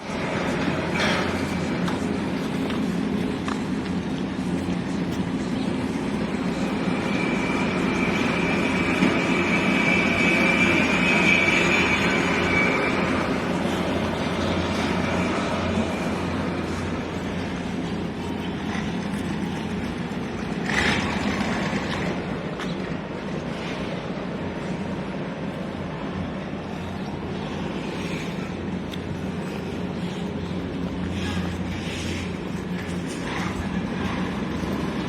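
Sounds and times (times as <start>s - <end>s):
harbour noise: 0.0s - 35.0s
machinery hum: 0.0s - 35.0s.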